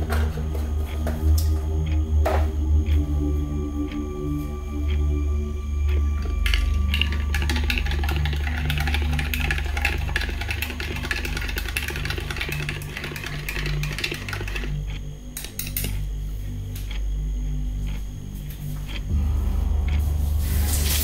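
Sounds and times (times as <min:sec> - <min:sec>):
background music with deep bass: 0:00.0 - 0:21.0.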